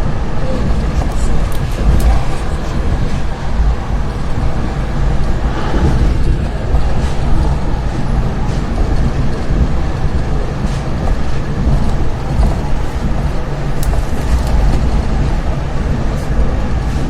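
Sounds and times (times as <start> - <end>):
vehicle rumbling: 0.7 - 16.6.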